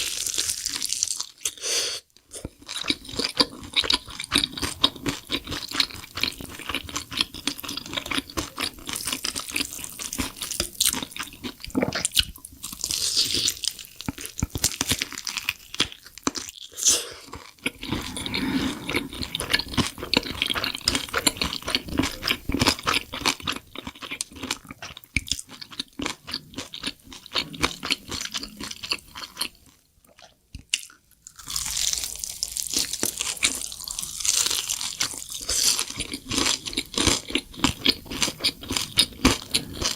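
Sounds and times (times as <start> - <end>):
crunching and chewing crisp snacks: 0.0 - 1.6, 2.2 - 17.9, 18.9 - 39.9.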